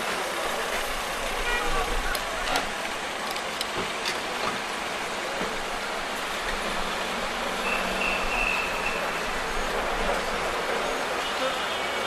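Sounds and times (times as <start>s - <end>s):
traffic hiss: 0.0s - 12.0s.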